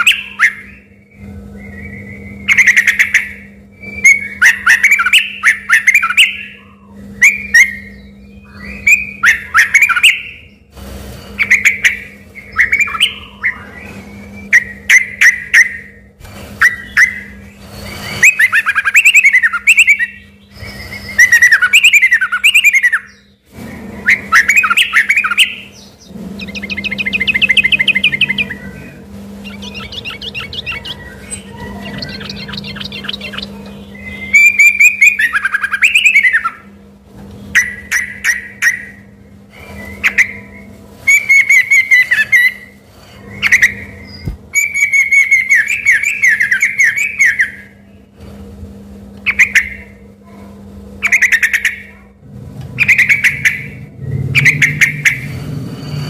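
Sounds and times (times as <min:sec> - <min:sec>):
bulbul singing: 0:00.0 - 0:36.8, 0:37.4 - 0:48.2, 0:49.2 - 0:50.1, 0:51.0 - 0:52.2, 0:52.8 - 0:55.4
fast buzzy bird trills: 0:00.0 - 0:56.0.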